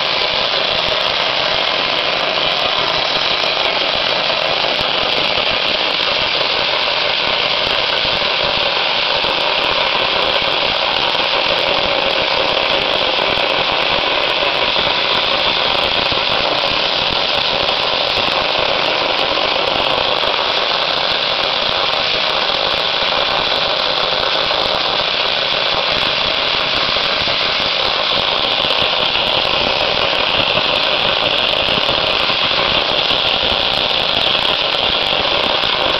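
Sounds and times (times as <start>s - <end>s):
dry ice blasting hiss: 0.0s - 35.9s.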